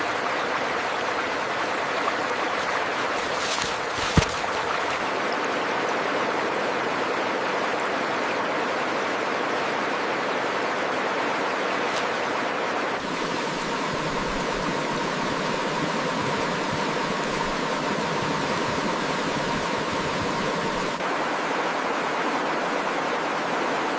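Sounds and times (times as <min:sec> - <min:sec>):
rushing running water: 0:00.0 - 0:23.9.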